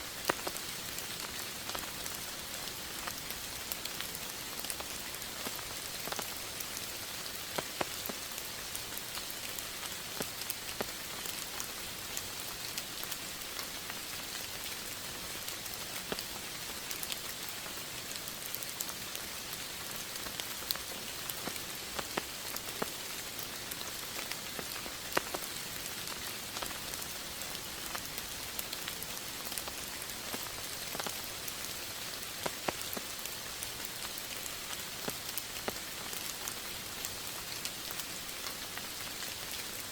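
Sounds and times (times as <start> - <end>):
raindrops ticking on surface: 0.0 - 39.9
steady rainfall: 0.0 - 39.9.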